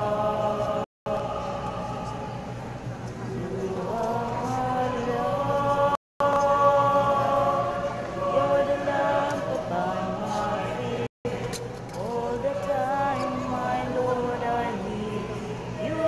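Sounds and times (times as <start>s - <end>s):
group singing a hymn: 0.0s - 16.0s.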